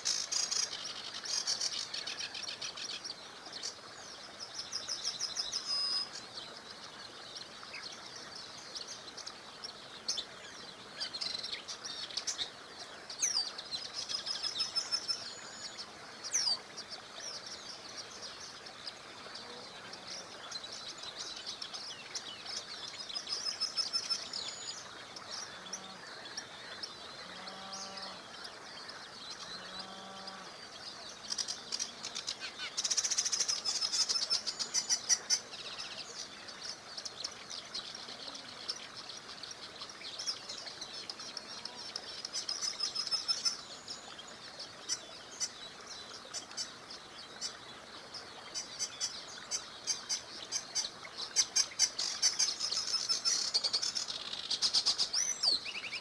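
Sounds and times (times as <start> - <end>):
small river rushing: 0.0 - 56.0
songbirds chirping and singing: 0.0 - 56.0.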